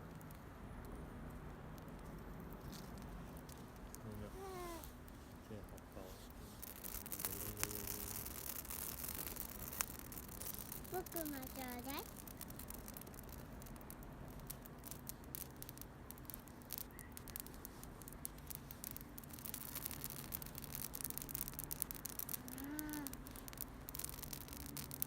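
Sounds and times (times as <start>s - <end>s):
campfire crackling: 0.0s - 25.0s
fire popping: 0.0s - 25.0s.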